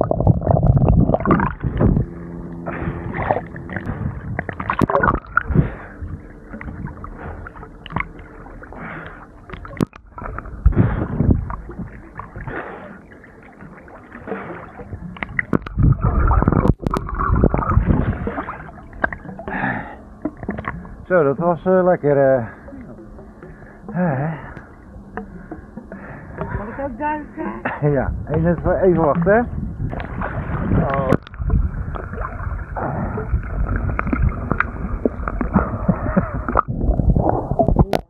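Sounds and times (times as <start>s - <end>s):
water splashing and sloshing: 0.0s - 38.0s.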